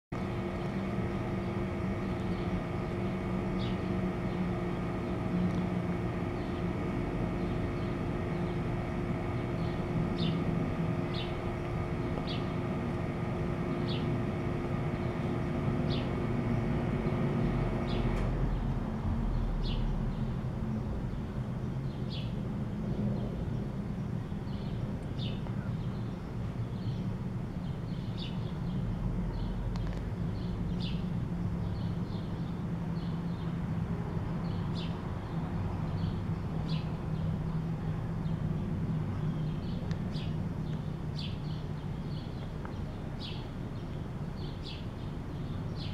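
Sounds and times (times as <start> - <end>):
steady low rumble: 0.2 - 45.9.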